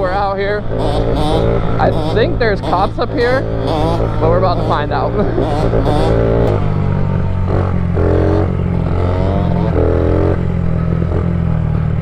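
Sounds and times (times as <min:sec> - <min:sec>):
dirt bike engine running: 0:00.0 - 0:12.0
engine revving: 0:00.0 - 0:12.0.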